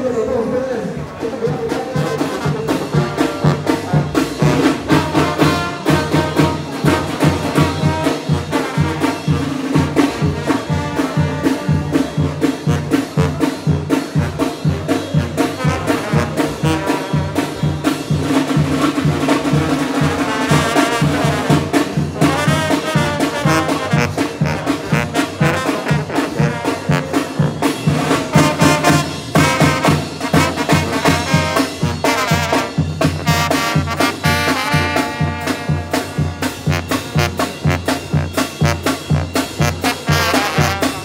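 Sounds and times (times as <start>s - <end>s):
brass band playing: 0.0s - 41.0s
bass drum and cymbal beat: 1.5s - 41.0s.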